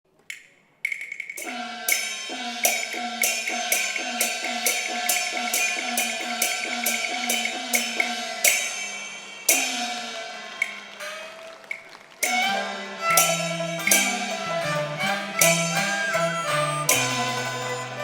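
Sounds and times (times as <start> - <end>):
cymbals and gongs struck: 1.2 - 18.0.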